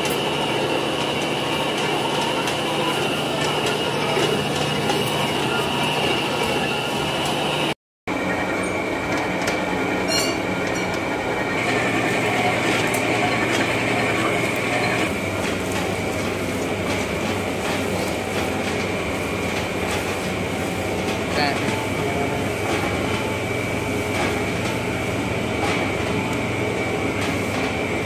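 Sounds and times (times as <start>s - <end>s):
dough mixer running: 0.0s - 28.0s.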